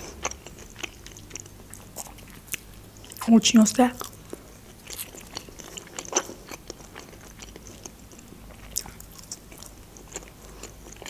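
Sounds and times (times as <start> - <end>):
person chewing food: 0.0 - 3.2, 4.0 - 11.0.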